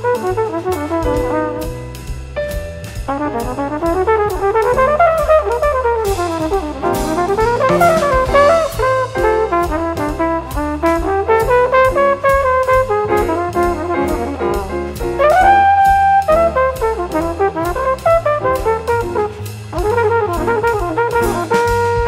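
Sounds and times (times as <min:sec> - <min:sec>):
double bass: 0:00.0 - 0:22.0
drum kit with ride cymbal: 0:00.0 - 0:22.0
horn playing fast runs: 0:03.1 - 0:22.0.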